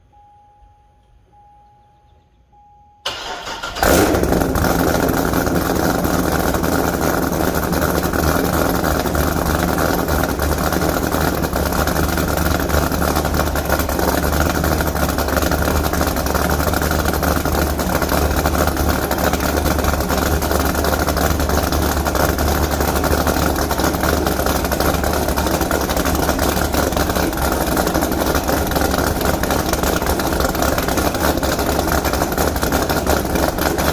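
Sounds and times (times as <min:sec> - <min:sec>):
car engine cranking: 0:03.0 - 0:33.9
loud engine idling: 0:03.1 - 0:33.9.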